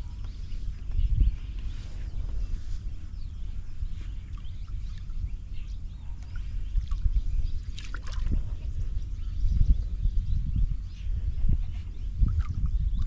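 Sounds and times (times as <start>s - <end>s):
birds chirping: 0.0s - 13.0s
wind rumble on microphone: 0.0s - 13.0s.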